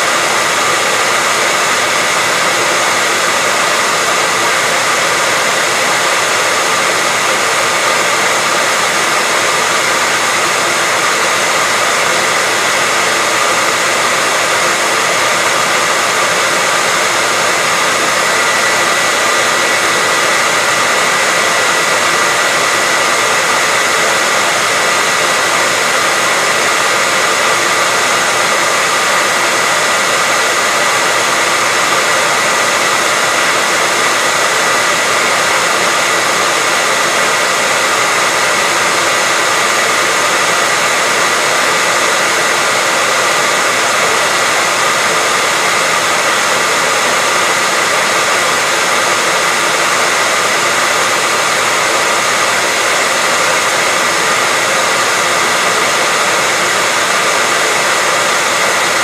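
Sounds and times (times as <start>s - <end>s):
hair dryer blowing air: 0.0s - 59.0s.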